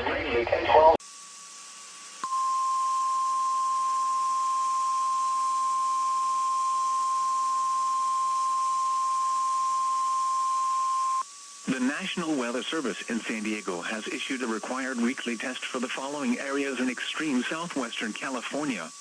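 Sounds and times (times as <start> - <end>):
steady alarm tone: 2.2 - 19.0.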